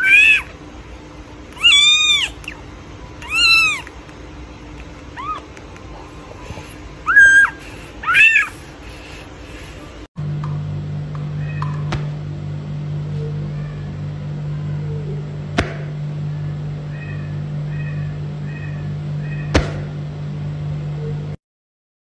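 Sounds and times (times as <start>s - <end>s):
low machine hum: 0.0s - 21.4s.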